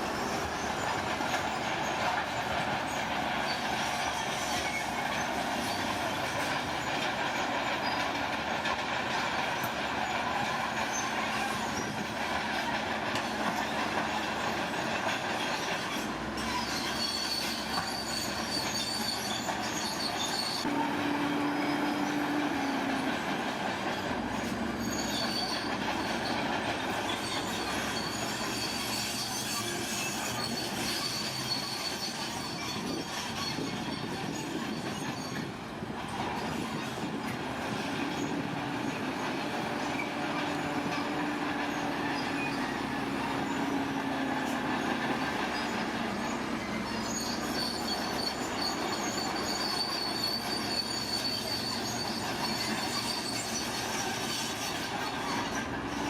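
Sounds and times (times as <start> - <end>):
construction machine engine: 0.0 - 56.0
steel tracks squealing and clanking: 0.0 - 56.0.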